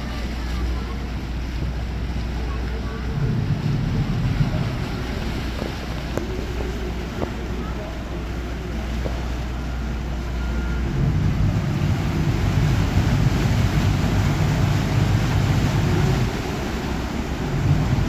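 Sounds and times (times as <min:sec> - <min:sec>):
boat engine rumbling: 0:00.0 - 0:18.0
wind on microphone: 0:00.0 - 0:18.0.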